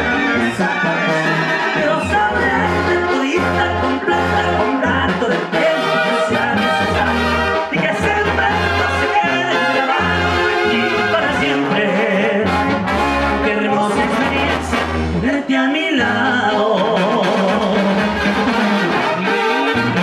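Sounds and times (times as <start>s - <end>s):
brass band trumpets and trombones: 0.0s - 15.4s, 16.1s - 20.0s
tuba bass notes: 0.0s - 20.0s.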